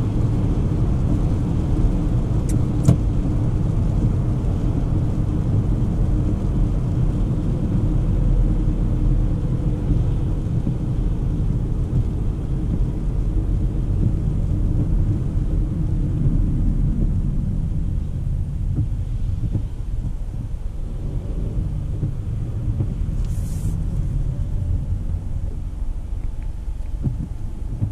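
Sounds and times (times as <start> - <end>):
engine and tyre rumble in car: 0.0 - 27.9.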